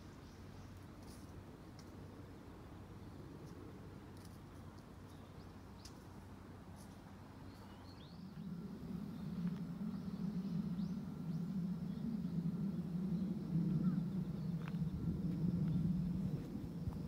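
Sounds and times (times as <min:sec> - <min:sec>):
small birds chirping: 0:02.9 - 0:17.0.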